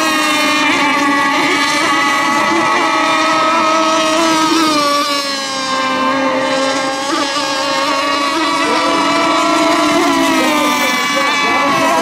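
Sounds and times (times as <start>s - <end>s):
rc boat motors droning: 0.0s - 12.0s.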